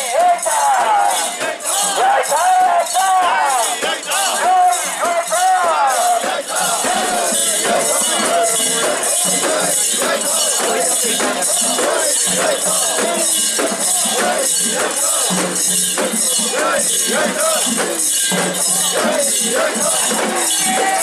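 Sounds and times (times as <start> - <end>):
people chanting in rhythm: 0.0 - 21.0.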